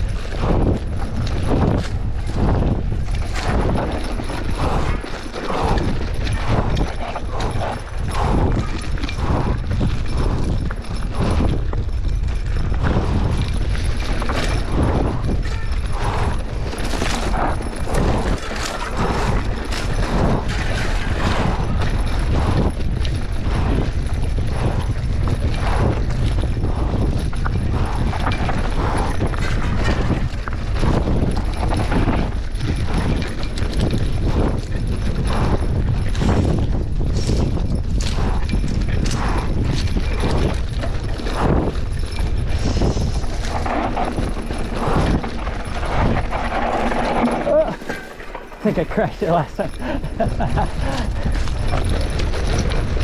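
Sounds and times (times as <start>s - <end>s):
wind rumble on microphone: 0.0s - 53.0s
bike clattering over ruts: 0.1s - 53.0s.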